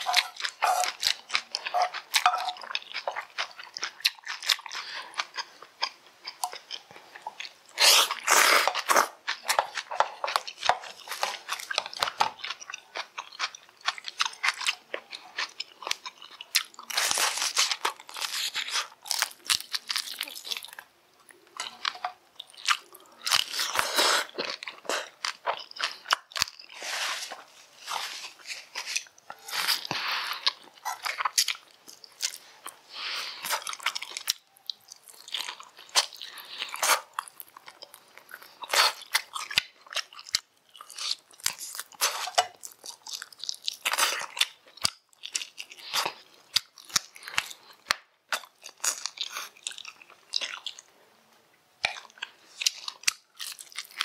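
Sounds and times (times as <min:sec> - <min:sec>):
chewing and crunching: 0:00.0 - 0:51.0, 0:51.8 - 0:54.0.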